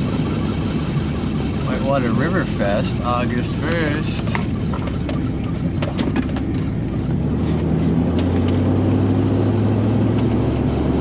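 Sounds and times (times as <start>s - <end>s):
van engine and road noise: 0.0s - 11.0s.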